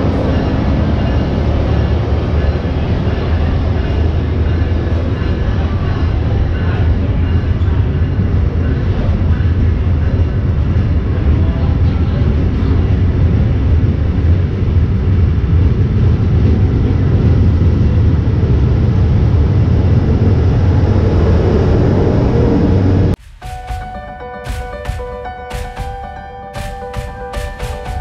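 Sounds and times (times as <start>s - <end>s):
train passing with deep rumble: 0.0s - 28.0s.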